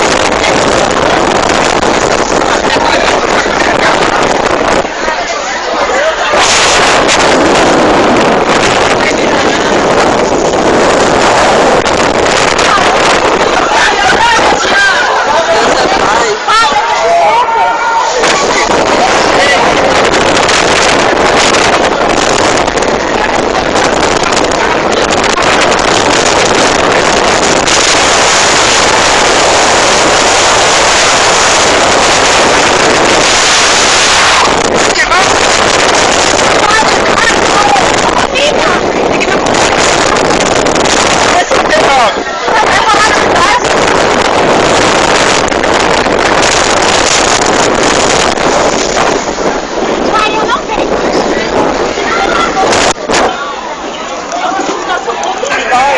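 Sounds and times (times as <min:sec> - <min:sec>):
rushing churning sea: 0:00.0 - 0:55.9
wind buffeting microphone: 0:00.0 - 0:55.9.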